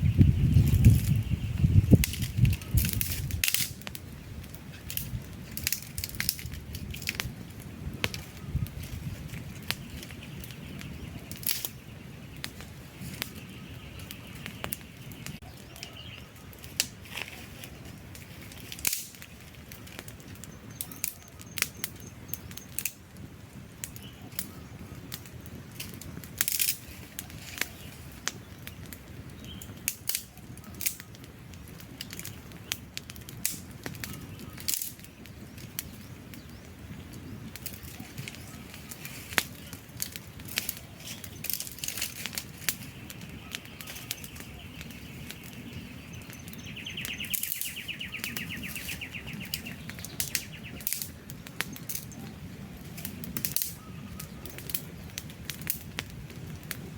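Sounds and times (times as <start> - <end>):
low rush of flames: 0.0 - 56.9
wood fire popping: 0.0 - 56.9.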